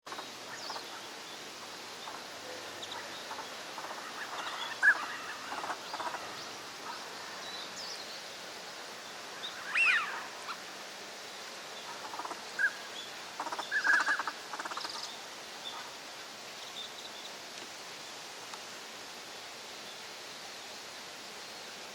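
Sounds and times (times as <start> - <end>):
steady background hiss: 0.0 - 21.9.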